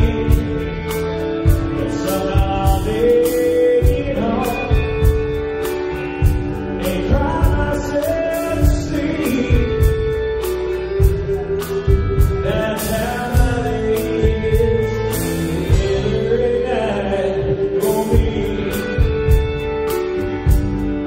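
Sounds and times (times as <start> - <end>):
steady drum beat: 0.0 - 16.4, 17.8 - 21.0
man singing: 0.0 - 20.0
live band playing: 0.0 - 21.0.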